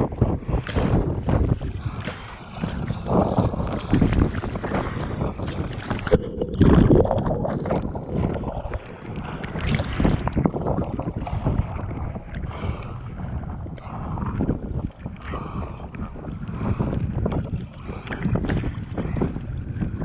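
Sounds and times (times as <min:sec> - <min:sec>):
wind buffeting microphone: 0:00.0 - 0:20.0
waves splashing against kayak: 0:00.2 - 0:20.0.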